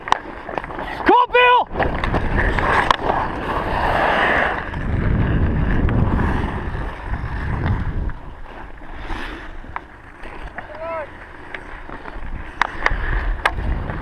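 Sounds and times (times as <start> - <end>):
skate blades scraping on ice: 0.0 - 14.0
wind buffeting microphone: 0.0 - 14.0.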